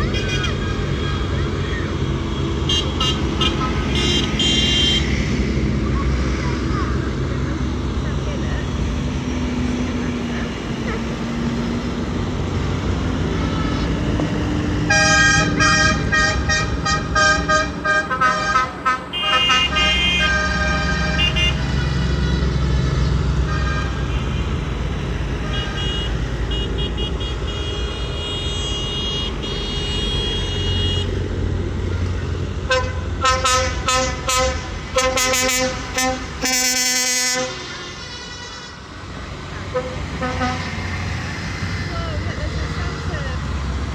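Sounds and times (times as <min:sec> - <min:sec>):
horns tooting: 0:00.0 - 0:43.9
tractor engines rumbling: 0:00.0 - 0:43.9.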